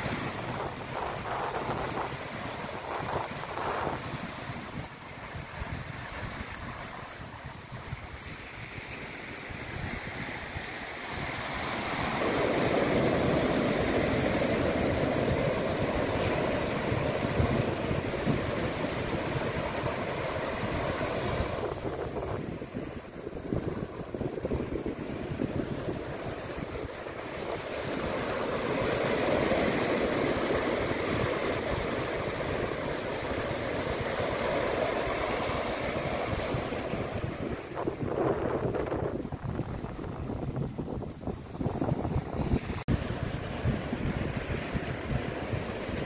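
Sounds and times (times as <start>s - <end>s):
surf breaking on shore: 0.0s - 46.0s
wind rumble on microphone: 0.0s - 46.0s.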